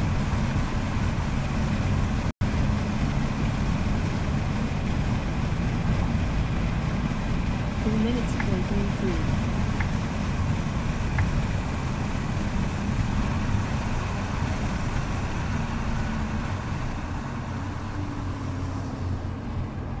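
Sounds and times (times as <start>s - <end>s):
car engine low rumble: 0.0s - 20.0s
road noise: 0.0s - 20.0s.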